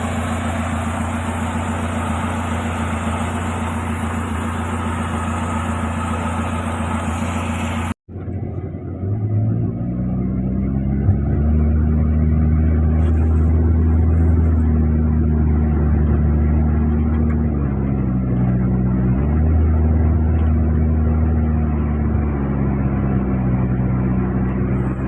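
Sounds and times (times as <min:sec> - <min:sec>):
small car engine running: 0:00.0 - 0:25.0.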